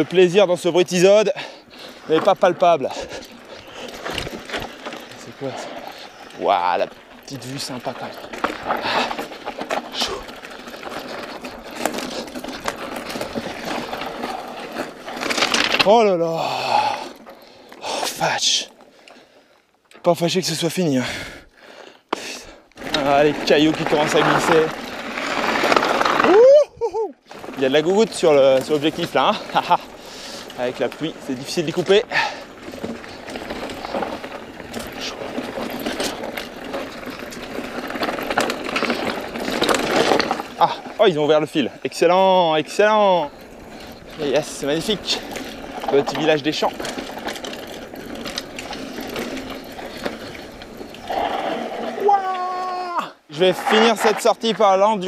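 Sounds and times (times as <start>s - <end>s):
tyres rushing on dirt: 0.0s - 18.9s, 22.3s - 26.6s, 27.2s - 55.0s
bike rattling and clattering: 0.0s - 21.2s, 22.1s - 55.0s.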